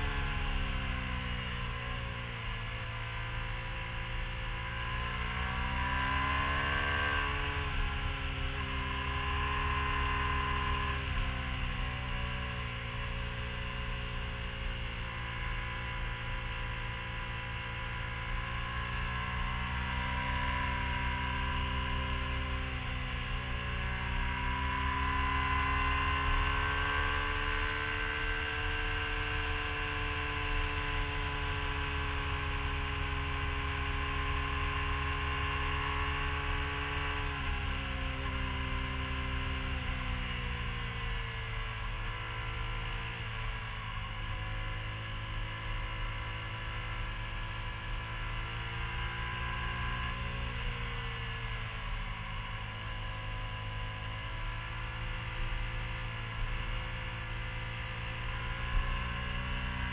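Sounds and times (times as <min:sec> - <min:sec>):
motorcycle engine: 0:00.0 - 0:59.9
wind and road rumble: 0:00.0 - 0:59.9.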